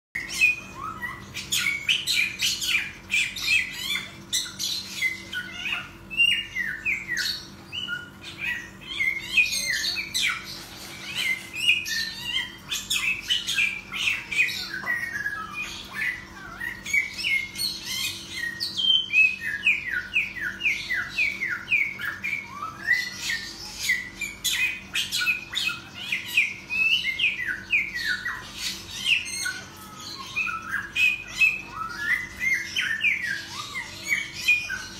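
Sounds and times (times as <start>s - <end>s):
songbird singing: 0.2s - 34.9s.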